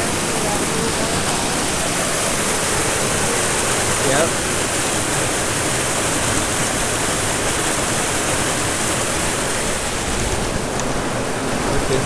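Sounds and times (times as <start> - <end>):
stream cascading over rocks: 0.0 - 12.0.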